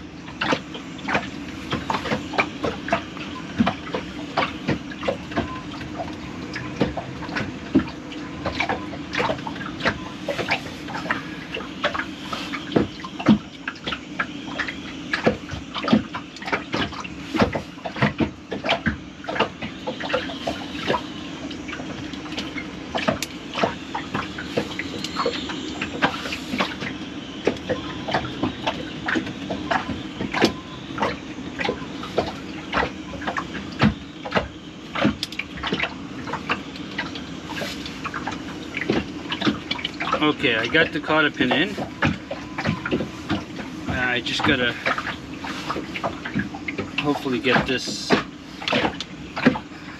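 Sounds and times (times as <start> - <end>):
steady low hum: 0.0 - 49.9
water dripping and trickling: 0.0 - 49.9.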